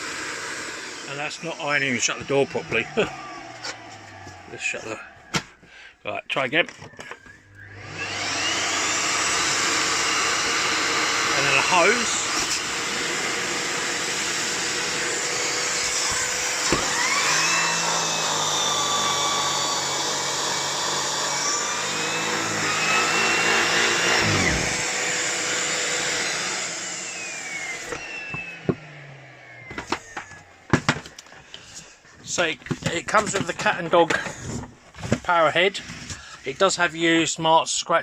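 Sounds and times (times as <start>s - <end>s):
vacuum cleaner running: 0.0s - 5.6s, 7.0s - 35.2s.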